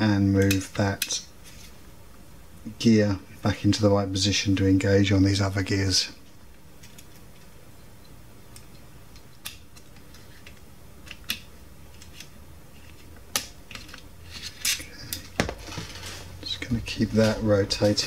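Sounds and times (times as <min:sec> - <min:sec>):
low room noise: 0:00.0 - 0:18.0.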